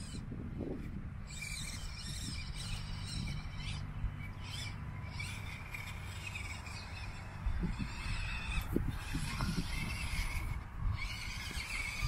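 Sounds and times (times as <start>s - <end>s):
birds chirping and calling: 0.0s - 12.0s
low steady rumble: 0.0s - 12.0s.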